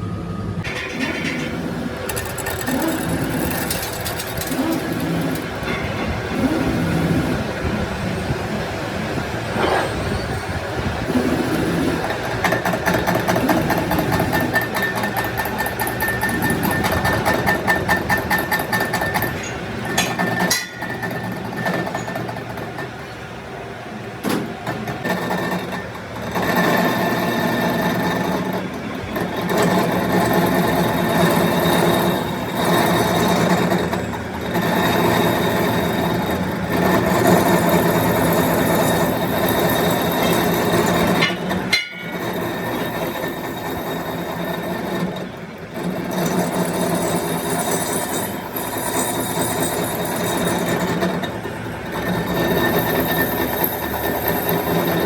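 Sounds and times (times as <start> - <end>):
metalworking machine motor: 0.6 - 55.0.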